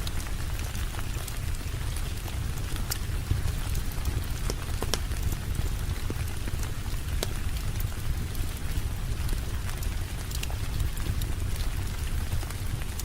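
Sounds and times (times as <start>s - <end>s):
wood crackling in a fire: 0.0s - 13.0s.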